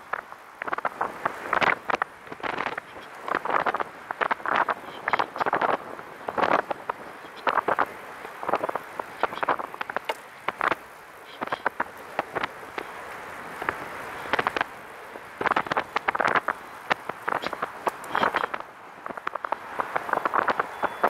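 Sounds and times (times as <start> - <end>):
sharp crackling clicks: 0.0 - 12.9, 13.6 - 21.0
tyre and wind noise hiss: 0.0 - 21.0.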